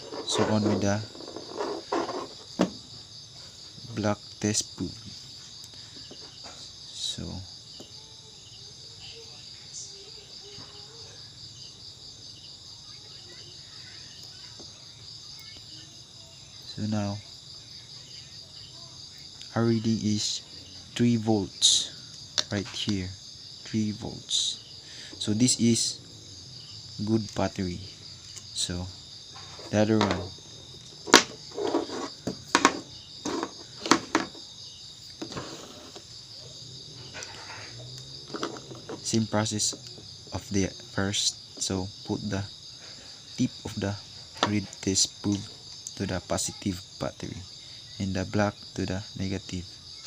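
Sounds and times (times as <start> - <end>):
crickets trilling: 0.0 - 50.0.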